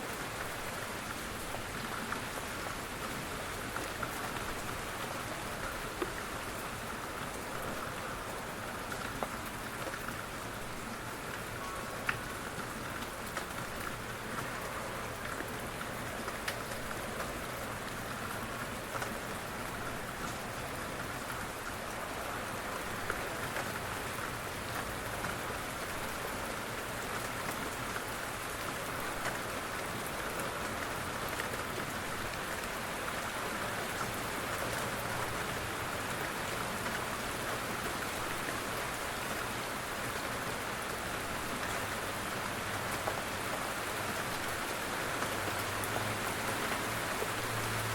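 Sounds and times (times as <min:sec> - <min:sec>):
rain pattering on a surface: 0:00.0 - 0:47.9.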